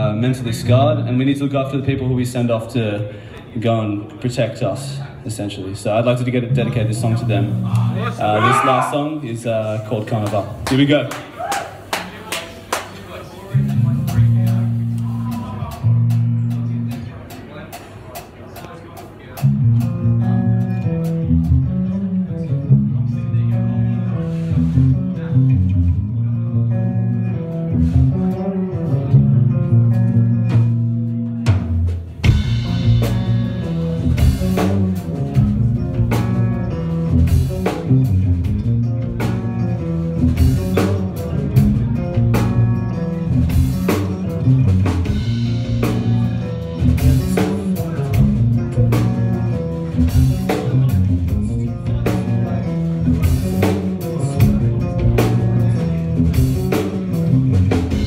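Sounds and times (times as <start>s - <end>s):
live rock band playing: 0.0s - 3.5s, 4.2s - 58.0s.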